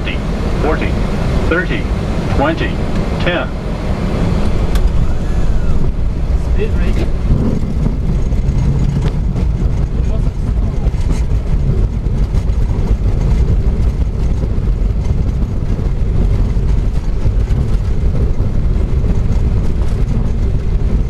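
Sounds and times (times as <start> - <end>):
jet engines rumbling: 0.0 - 21.0
wheels rolling on runway: 3.8 - 21.0.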